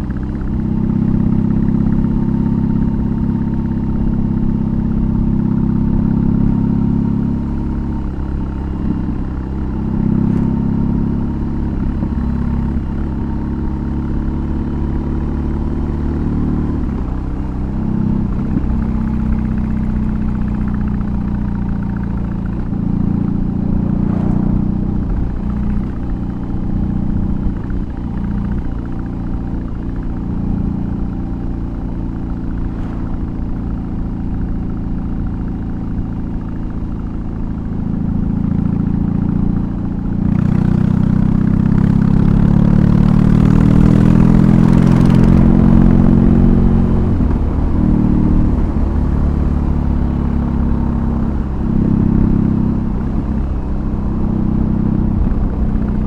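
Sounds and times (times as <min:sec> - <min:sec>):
motorcycle exhaust rumble: 0:00.0 - 0:56.0.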